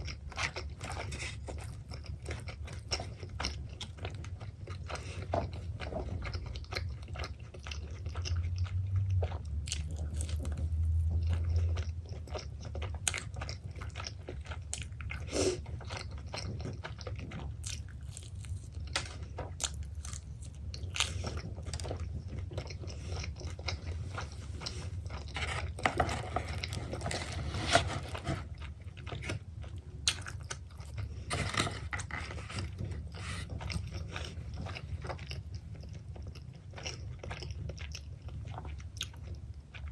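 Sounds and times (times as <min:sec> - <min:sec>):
chewing pizza: 0:00.0 - 0:39.9.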